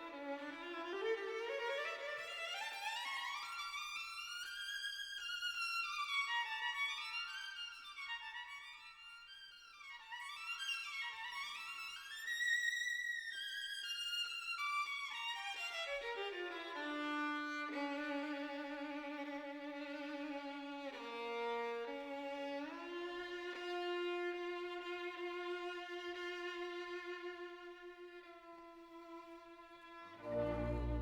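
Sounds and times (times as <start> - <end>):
slow solo violin music: 0.0 - 31.0.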